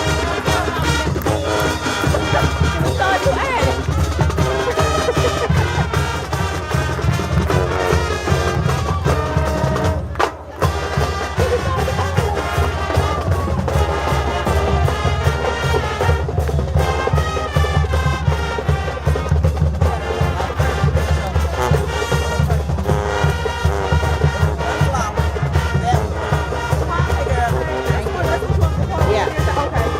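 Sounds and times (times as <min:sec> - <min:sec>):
marching band playing: 0:00.0 - 0:29.9.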